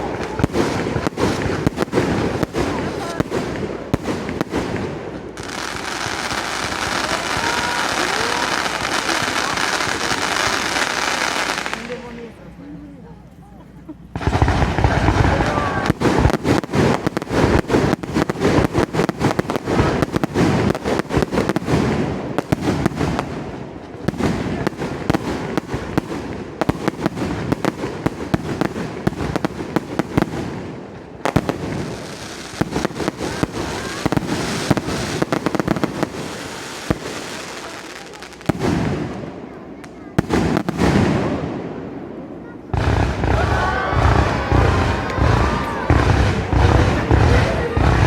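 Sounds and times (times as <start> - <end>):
fireworks crackling and banging: 0.0 - 48.0.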